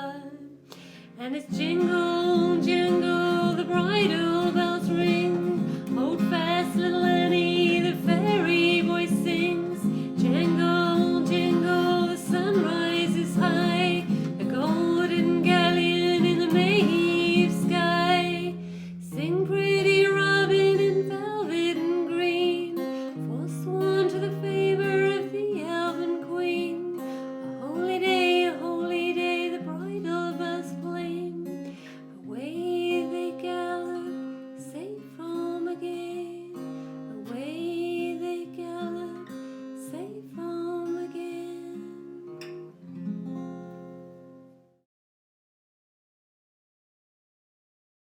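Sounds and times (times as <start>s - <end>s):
folk song: 0.0s - 42.7s
acoustic guitar: 0.0s - 44.8s.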